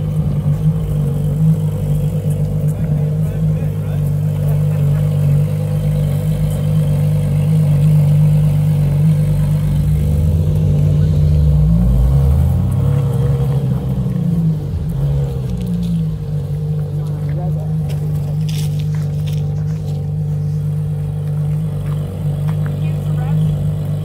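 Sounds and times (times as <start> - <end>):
car engine at low revs: 0.0 - 24.0.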